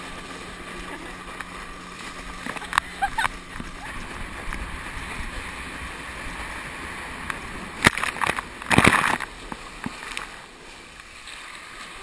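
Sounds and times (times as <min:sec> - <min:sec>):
motorboat engine: 0:00.0 - 0:12.0
water rushing past hull: 0:00.0 - 0:12.0.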